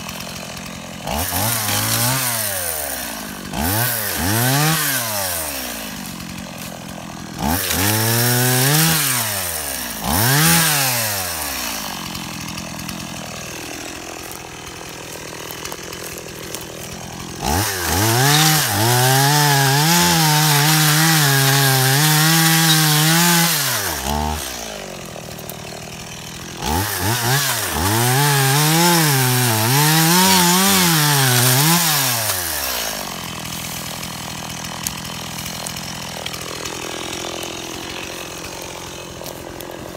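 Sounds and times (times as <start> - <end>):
chainsaw cutting brush: 0.0 - 39.9.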